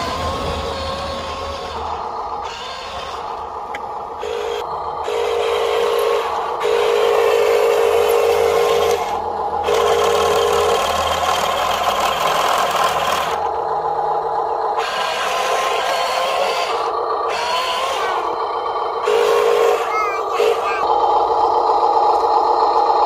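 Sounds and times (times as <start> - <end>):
toy truck electric motor whining: 0.0 - 23.0.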